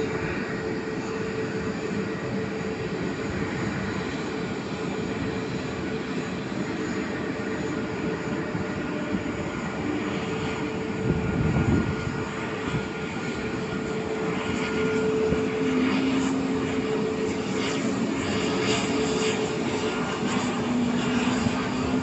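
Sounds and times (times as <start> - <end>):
jet engines whining: 0.0 - 22.0
lower jet engine whine: 0.0 - 22.0.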